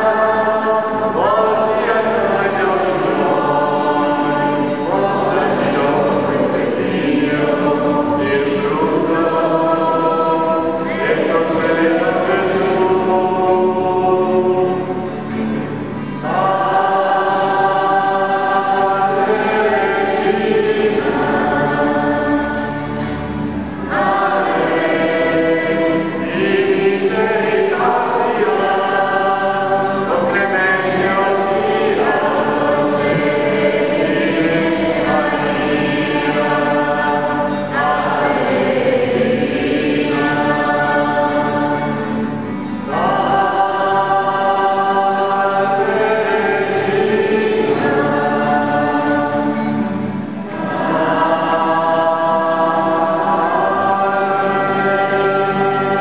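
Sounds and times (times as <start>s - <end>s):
voices singing a hymn: 0.0s - 56.0s.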